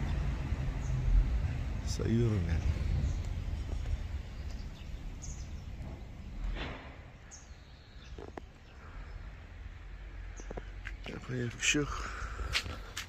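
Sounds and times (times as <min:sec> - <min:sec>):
low rumble on microphone: 0:00.0 - 0:11.1
small birds chirping: 0:00.0 - 0:13.0.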